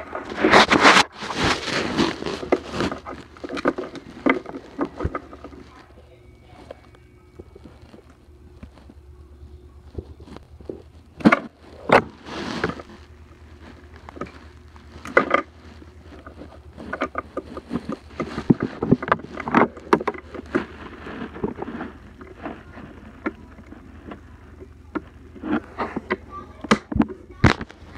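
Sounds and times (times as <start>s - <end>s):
clothing rustle: 0.0s - 7.0s, 10.1s - 26.1s.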